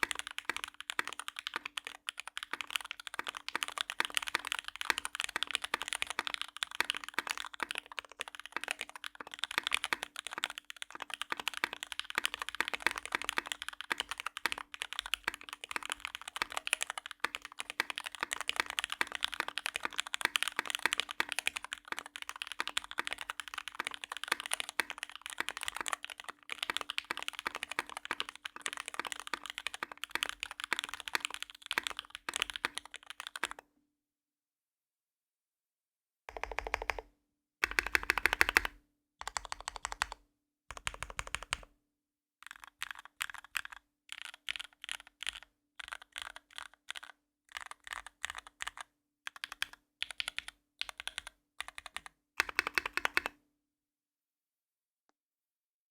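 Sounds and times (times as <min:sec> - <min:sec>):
fast mechanical keyboard typing: 0:00.0 - 0:33.6, 0:36.3 - 0:41.7, 0:42.4 - 0:53.4.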